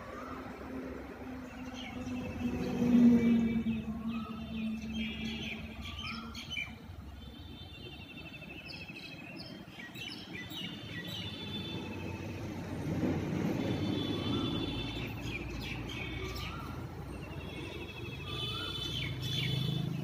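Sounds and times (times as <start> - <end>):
small birds chirping: 1.3 - 12.4, 13.9 - 20.0.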